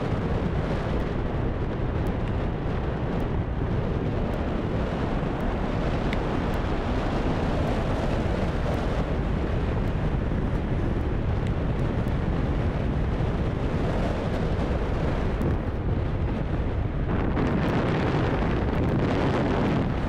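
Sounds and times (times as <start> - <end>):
scooter engine and road noise: 0.0 - 20.0
wind buffeting microphone: 0.0 - 20.0.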